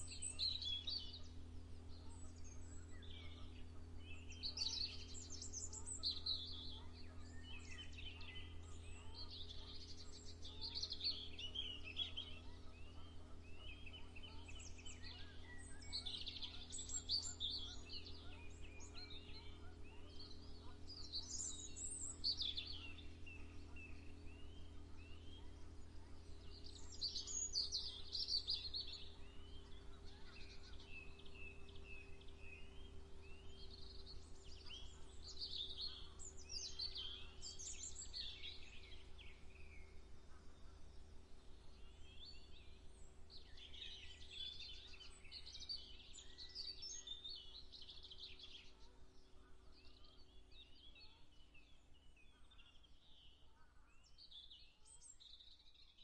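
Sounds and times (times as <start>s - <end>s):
low background hum: 0.0s - 56.0s
songbirds chirping: 0.0s - 56.0s.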